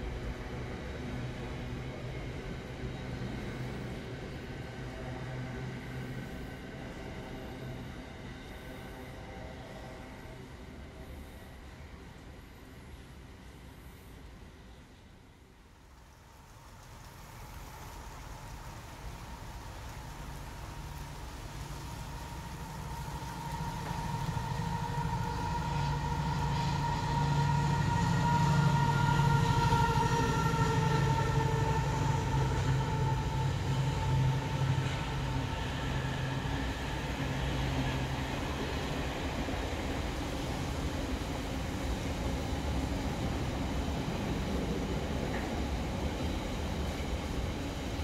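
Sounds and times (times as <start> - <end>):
train rumble: 0.0 - 48.0
train whine: 0.0 - 48.0.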